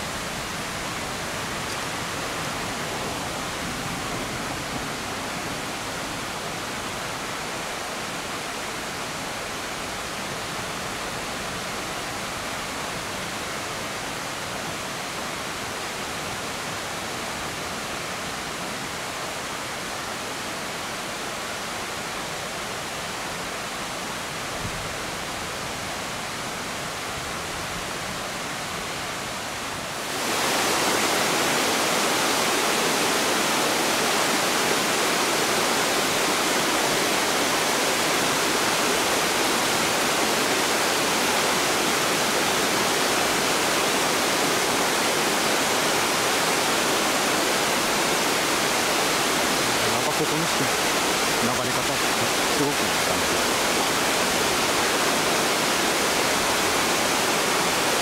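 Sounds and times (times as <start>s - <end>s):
waterfall cascading over rocks: 0.0s - 58.0s.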